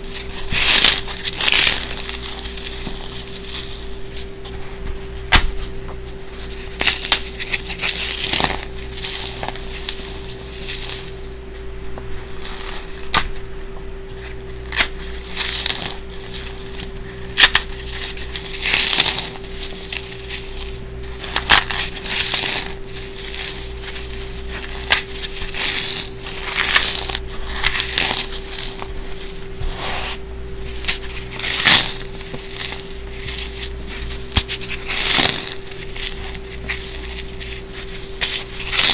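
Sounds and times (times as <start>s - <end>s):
floral foam crunching: 0.0s - 4.4s, 6.2s - 11.4s, 14.1s - 38.9s
steady hum: 0.0s - 38.9s.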